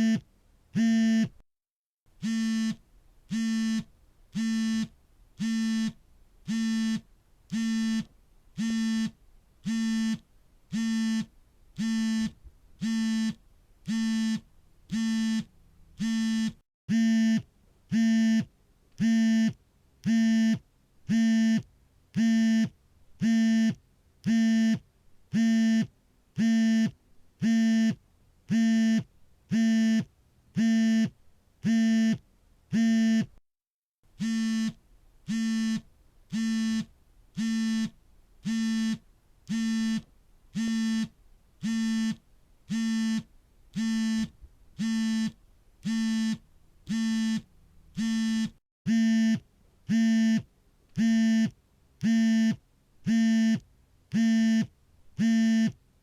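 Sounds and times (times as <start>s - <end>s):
smartphone vibrating buzz: 0.0s - 0.2s, 0.8s - 1.4s, 2.2s - 33.4s, 34.2s - 55.8s.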